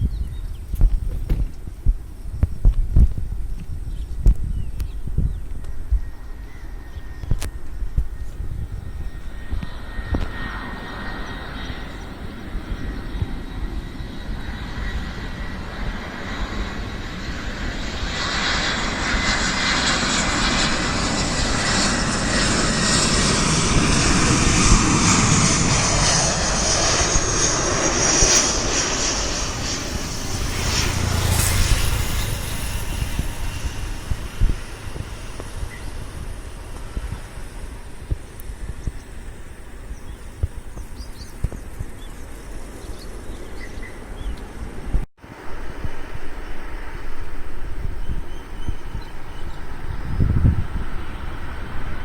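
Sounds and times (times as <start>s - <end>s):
jet engines passing with whine: 0.0s - 52.0s.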